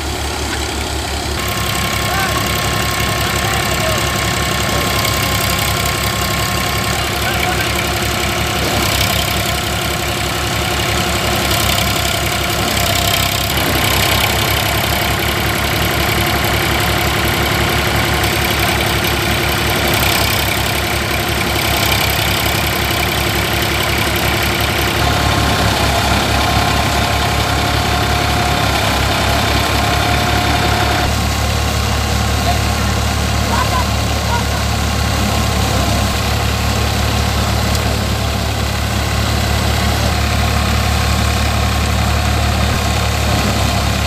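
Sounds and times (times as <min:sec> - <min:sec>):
thresher drum humming: 0:00.0 - 0:44.0
tractor diesel engine running: 0:00.0 - 0:44.0.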